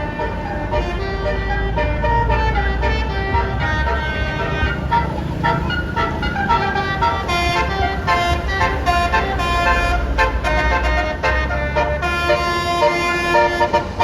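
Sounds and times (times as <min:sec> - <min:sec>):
bus engine rumble: 0:00.0 - 0:14.0
multi-tone bus horn tune: 0:00.0 - 0:14.0.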